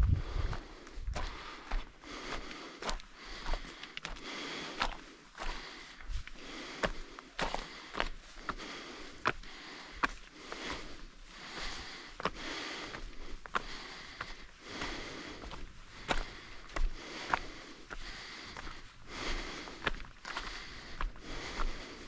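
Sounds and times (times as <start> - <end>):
footsteps on trail: 0.0 - 22.0
person breathing hard: 0.0 - 22.0.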